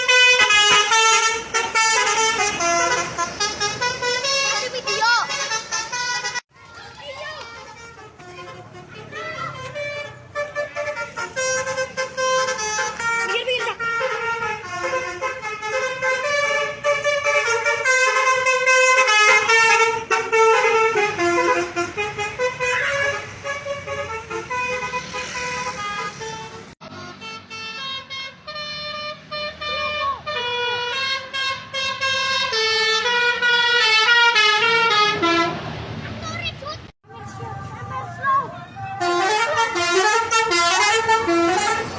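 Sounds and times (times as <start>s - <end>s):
musical bus horn tune: 0.0s - 6.5s, 7.2s - 35.7s, 38.8s - 41.9s.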